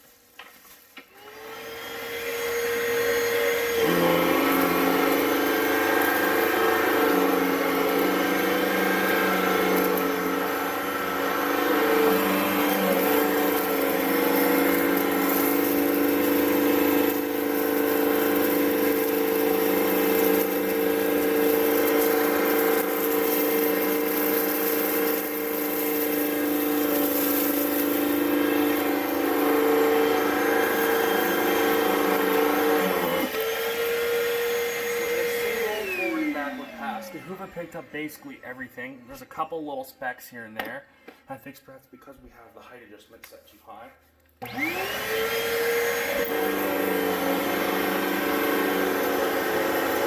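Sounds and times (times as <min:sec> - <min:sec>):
upright vacuum whining: 0:00.3 - 0:39.5, 0:44.4 - 0:50.0.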